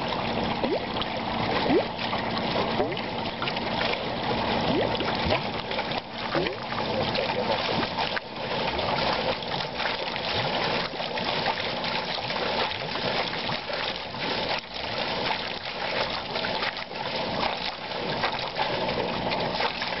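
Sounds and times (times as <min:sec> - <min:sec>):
water gushing from pipe: 0:00.0 - 0:20.0
water splashing in metal trough: 0:00.0 - 0:20.0.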